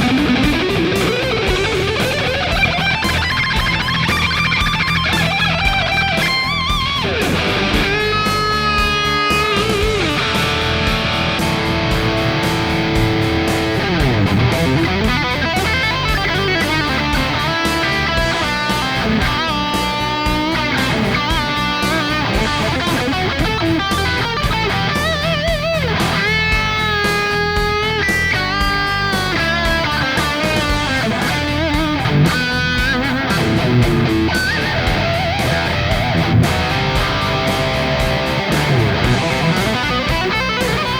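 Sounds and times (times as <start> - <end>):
distorted electric guitar lead: 0.0 - 40.9.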